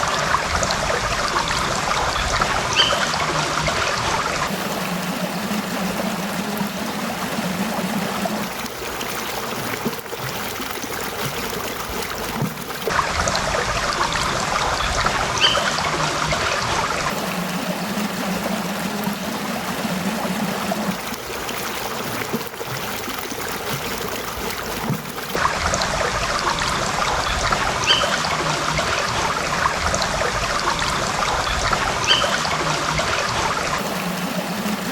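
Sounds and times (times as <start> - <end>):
streams trickling: 0.0 - 34.9.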